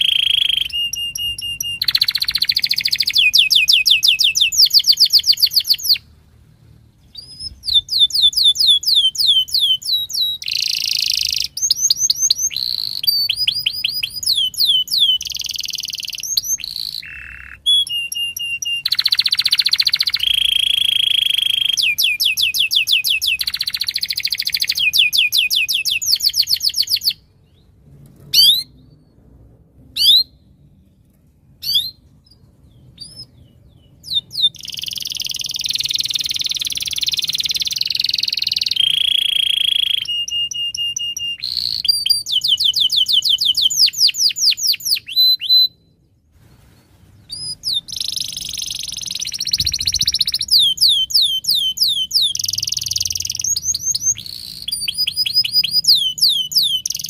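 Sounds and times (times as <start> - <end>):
canary singing trills: 0.0 - 6.1, 7.0 - 27.7, 31.6 - 46.1, 47.2 - 57.0.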